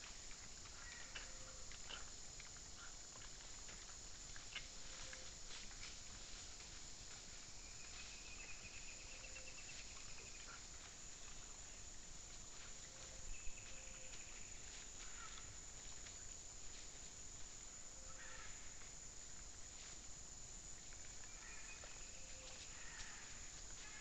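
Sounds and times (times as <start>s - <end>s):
faint scattered ticks: 0.0s - 24.0s
forest ambience: 0.0s - 24.0s.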